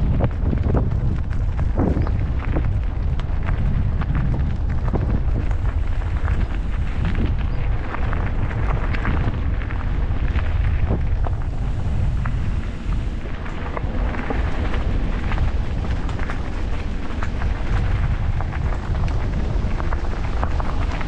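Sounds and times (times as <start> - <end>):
road and tyre noise: 0.0 - 21.0
wind buffeting microphone: 0.0 - 21.0.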